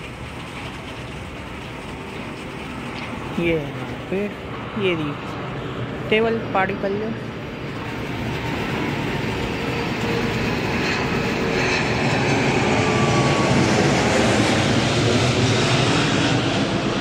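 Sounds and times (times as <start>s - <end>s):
jet airliner flying overhead: 0.0s - 17.0s.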